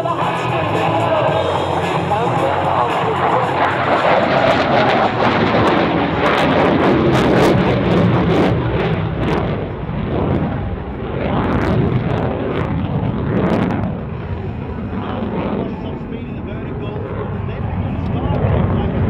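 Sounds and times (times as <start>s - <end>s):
jet engines roaring with crackle: 0.0s - 19.0s.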